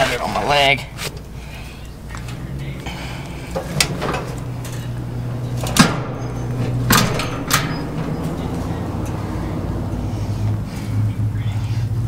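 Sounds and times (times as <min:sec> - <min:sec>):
steady low hum: 0:00.0 - 0:12.0
sharp metal clunks: 0:00.9 - 0:10.7
light metal clicks: 0:00.9 - 0:11.3.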